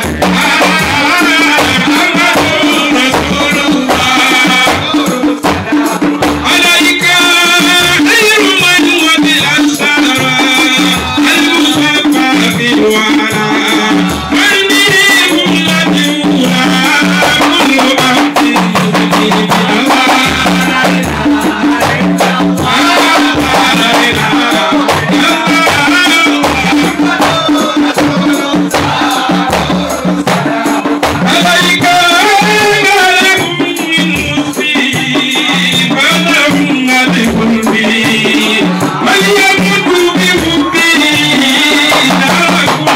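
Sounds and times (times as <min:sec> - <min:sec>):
frame drums: 0:00.0 - 0:42.9
man singing into a microphone: 0:00.0 - 0:42.9
men singing along: 0:00.0 - 0:42.9.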